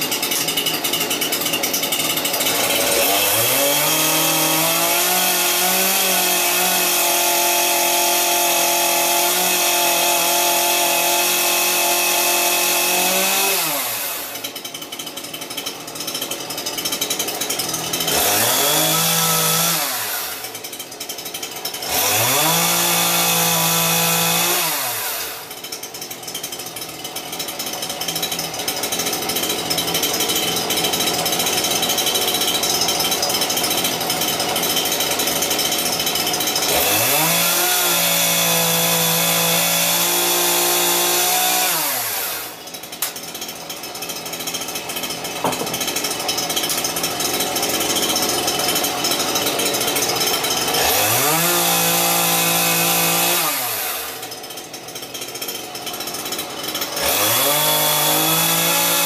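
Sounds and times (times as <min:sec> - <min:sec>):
chainsaw cutting wood: 0:00.0 - 0:59.0
chainsaw engine revving: 0:00.0 - 0:59.0.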